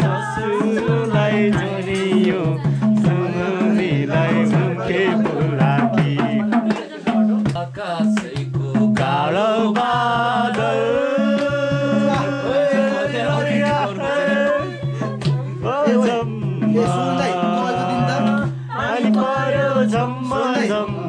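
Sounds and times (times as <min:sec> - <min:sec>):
steady drum rhythm: 0:00.0 - 0:21.0.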